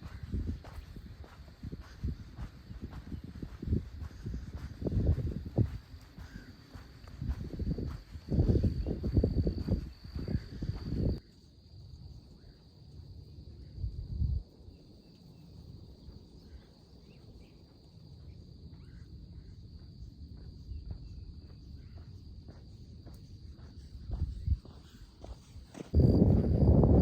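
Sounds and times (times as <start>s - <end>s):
soft footsteps on trail: 0.0s - 11.2s, 16.5s - 27.0s
insects trilling: 0.0s - 27.0s.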